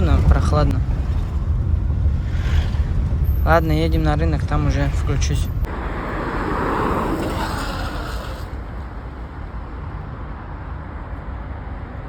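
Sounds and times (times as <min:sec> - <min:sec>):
loud rushing noise: 0:00.0 - 0:09.7
car engine rumbling: 0:00.0 - 0:11.0.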